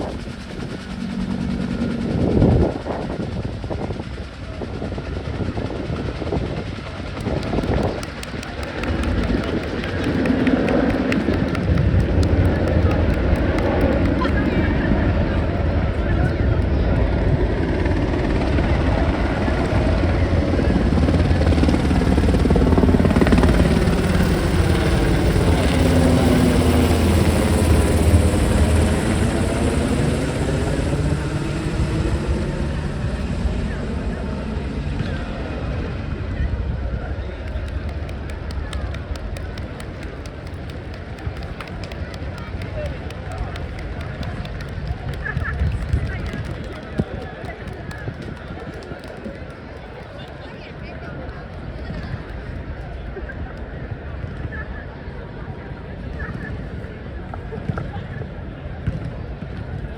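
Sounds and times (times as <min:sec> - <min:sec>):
helicopter rotor beating: 0:00.0 - 0:54.2
helicopter engine rumble: 0:00.0 - 0:59.9.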